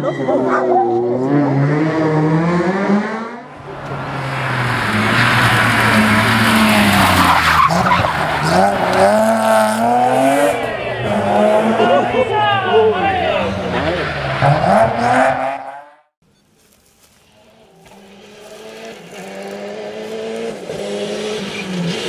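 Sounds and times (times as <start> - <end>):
rally car engines revving: 0.0 - 16.1, 17.4 - 22.0.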